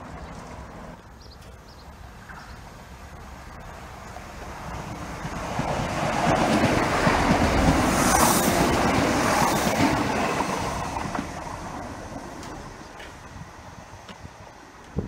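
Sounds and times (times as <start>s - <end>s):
train wheels and engines rumbling: 0.0s - 15.0s.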